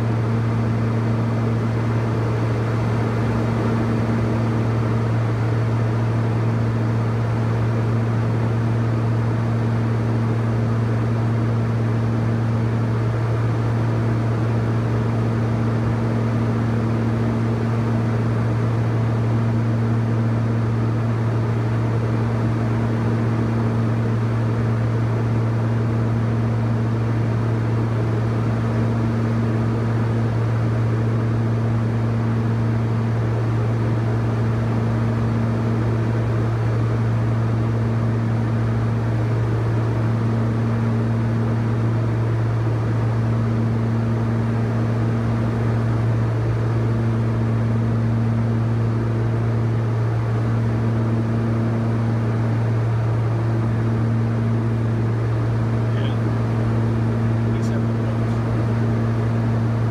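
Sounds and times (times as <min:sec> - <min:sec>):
higher pulsing hum: 0:00.0 - 0:59.9
turboprop engines droning: 0:00.0 - 0:59.9.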